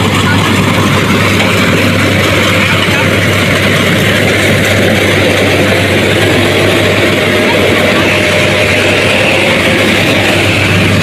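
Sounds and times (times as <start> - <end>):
harvester engine running: 0.0 - 11.0.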